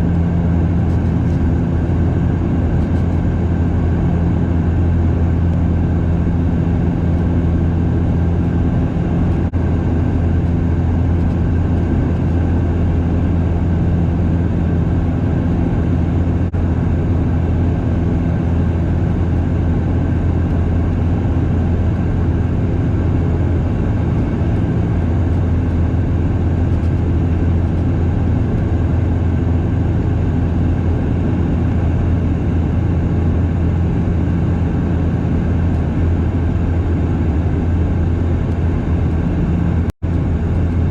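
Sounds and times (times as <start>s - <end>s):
turboprop cabin drone: 0.0s - 40.9s.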